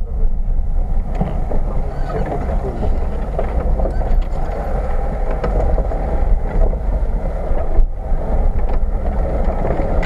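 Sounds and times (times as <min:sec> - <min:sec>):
vehicle engine and road drone: 0:00.0 - 0:10.0.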